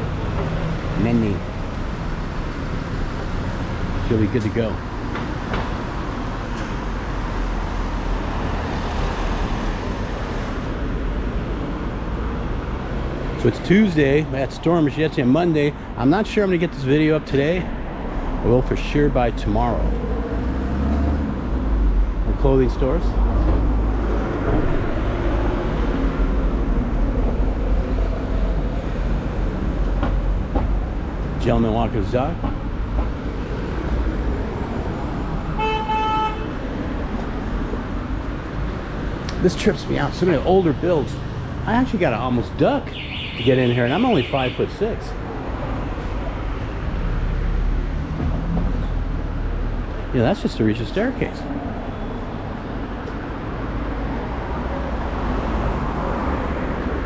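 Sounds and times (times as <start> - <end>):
passing cars hum and rumble: 0.0 - 57.0.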